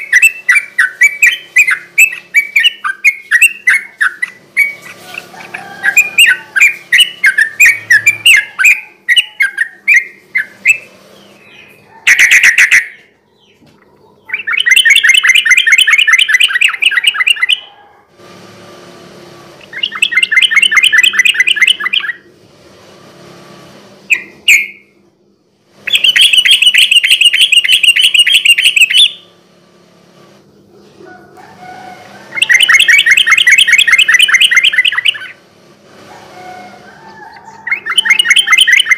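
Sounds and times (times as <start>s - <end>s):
bird chirping and trilling: 0.0s - 17.9s, 19.6s - 22.3s, 24.0s - 25.0s, 25.8s - 29.4s, 30.5s - 35.4s, 36.1s - 38.9s.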